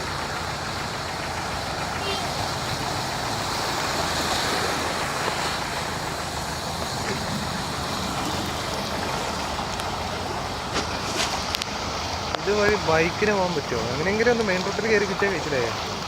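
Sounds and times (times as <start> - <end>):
floodwater rushing: 0.0 - 16.0
vehicle engine running: 0.0 - 16.0.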